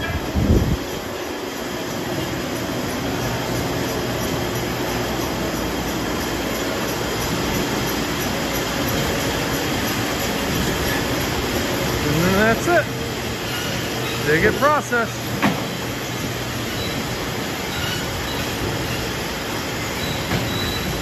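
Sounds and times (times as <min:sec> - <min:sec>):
conveyor machinery running: 0:00.0 - 0:21.0.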